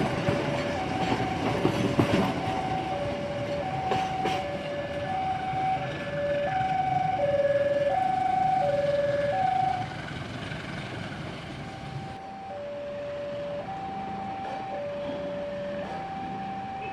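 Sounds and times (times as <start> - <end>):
two-tone electronic alarm: 0.0 - 9.9, 11.6 - 16.9.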